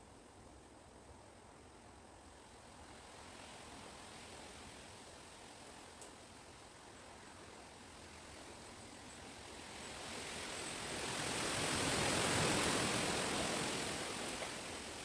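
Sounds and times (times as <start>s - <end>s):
wind rushing through leaves: 2.3s - 15.0s.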